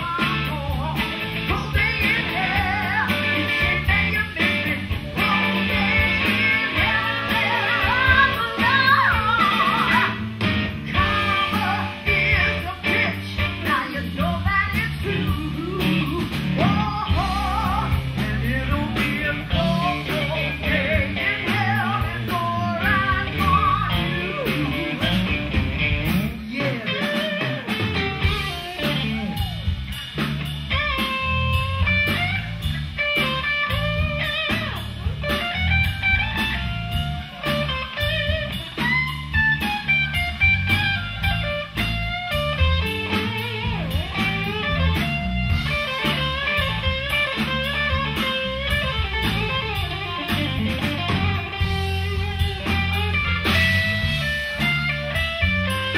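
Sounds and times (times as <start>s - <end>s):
blues-rock band playing: 0.0s - 55.9s
electric guitar lines: 0.0s - 55.9s.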